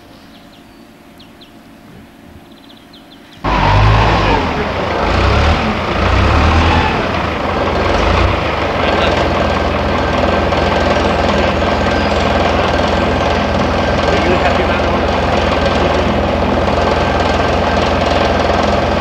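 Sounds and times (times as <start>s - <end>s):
loader engine running: 1.8s - 19.0s.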